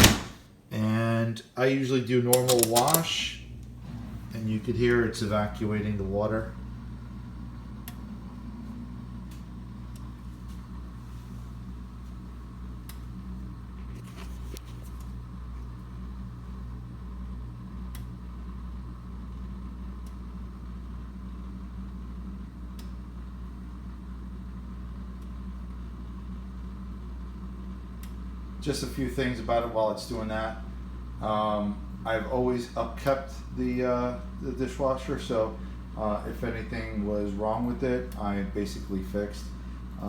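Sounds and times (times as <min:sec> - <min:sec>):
dishwasher drain pump humming: 0:00.0 - 0:01.0, 0:01.6 - 0:40.0.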